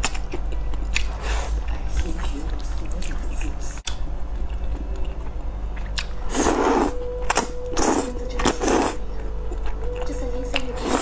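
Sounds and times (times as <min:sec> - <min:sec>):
person chewing noodles: 0:00.0 - 0:03.2, 0:04.3 - 0:10.1.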